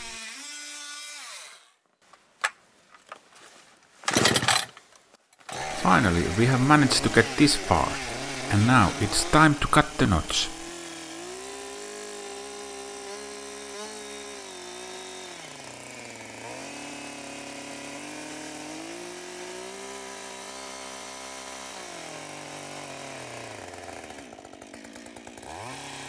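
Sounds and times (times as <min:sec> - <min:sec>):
chainsaw cutting log: 0:00.0 - 0:01.8, 0:05.4 - 0:26.0.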